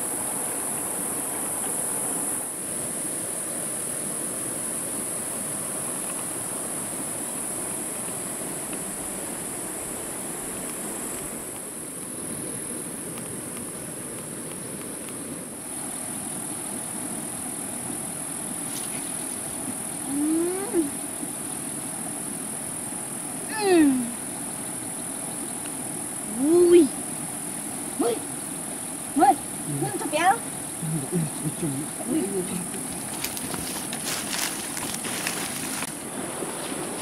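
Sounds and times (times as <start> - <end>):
insects chorus: 0.0 - 37.0
stream flowing: 0.0 - 37.0.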